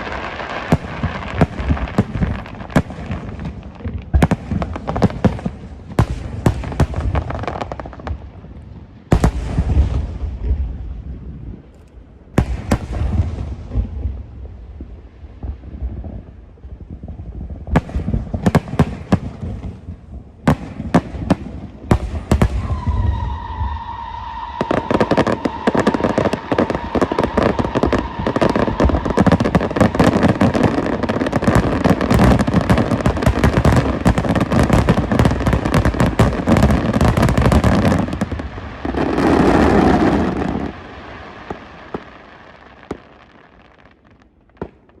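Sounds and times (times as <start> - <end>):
loud firework bangs: 0.0 - 11.1, 12.3 - 45.0
crackling firework barrage: 0.0 - 45.0.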